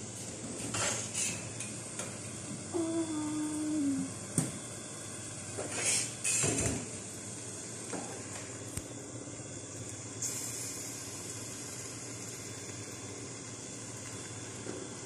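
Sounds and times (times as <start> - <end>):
food sizzling in a wok: 0.6 - 1.7, 2.7 - 15.0.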